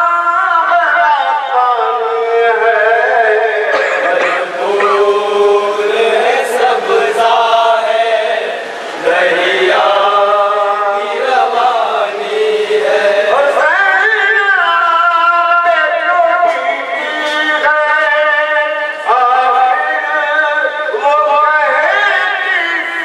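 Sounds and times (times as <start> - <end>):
man chanting melodically: 0.0 - 23.0.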